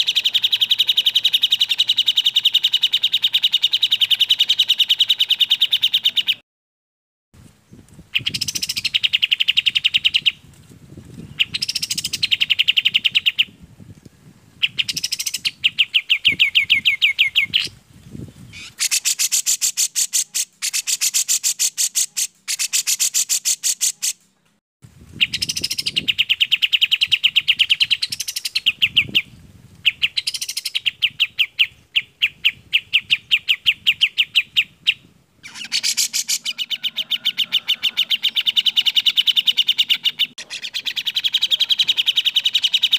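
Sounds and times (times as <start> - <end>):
bird song chattering notes: 0.0 - 6.4, 8.1 - 10.4, 11.2 - 13.6, 14.6 - 17.8, 18.4 - 24.2, 25.2 - 42.9.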